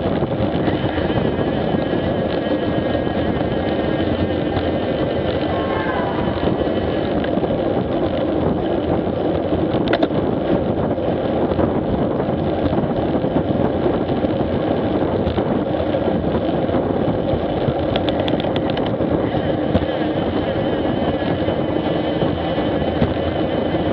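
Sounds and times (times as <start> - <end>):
motorcycle engine running: 0.0 - 23.9
wind rushing over microphone: 0.0 - 23.9.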